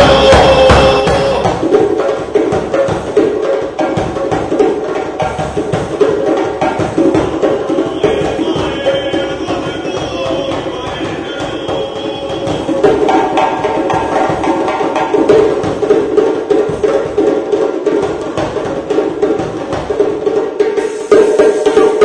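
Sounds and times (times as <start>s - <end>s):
djembe drums: 0.0s - 22.0s.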